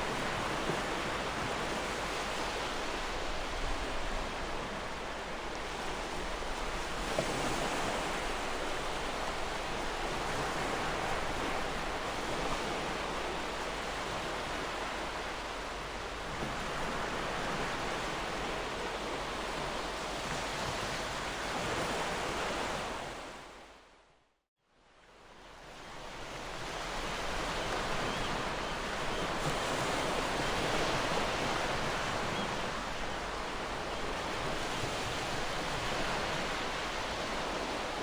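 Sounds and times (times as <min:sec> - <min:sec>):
gentle ocean waves: 0:00.0 - 0:23.9, 0:24.8 - 0:38.0.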